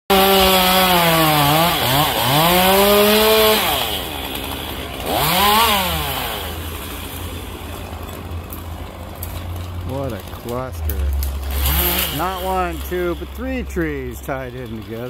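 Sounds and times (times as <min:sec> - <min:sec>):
chainsaw cutting wood: 0:00.1 - 0:15.0.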